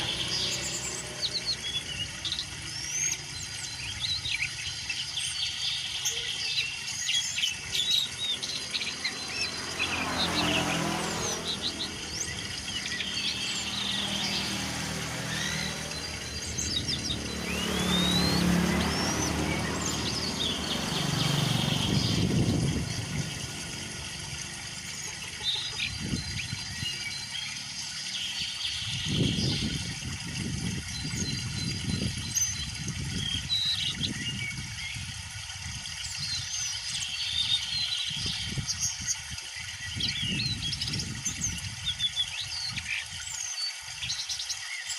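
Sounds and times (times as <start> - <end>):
songbirds chirping and whistling: 0.0 - 35.1, 35.8 - 44.9.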